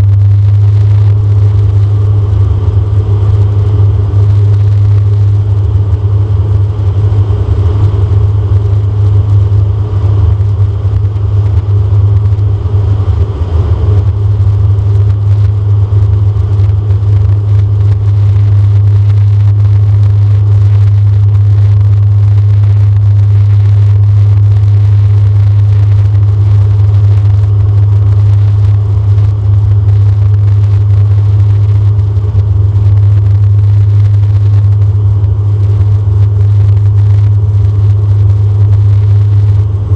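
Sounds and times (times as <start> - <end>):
rushing airflow: 0.0 - 37.8
turboprop drone in cabin: 0.0 - 39.9.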